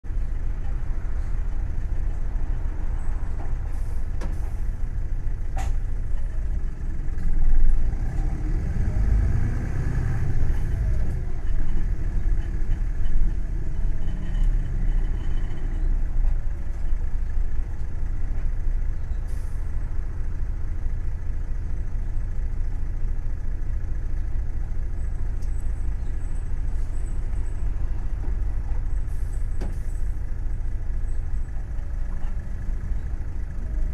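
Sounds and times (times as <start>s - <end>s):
bus engine rumbling: 0.0s - 33.9s.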